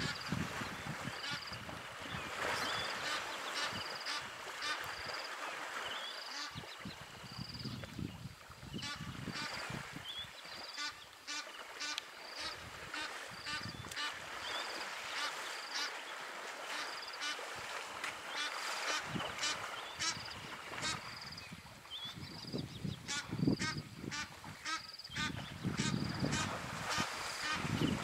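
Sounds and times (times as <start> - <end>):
water splashing and sloshing: 0.0 - 21.9, 24.1 - 28.0.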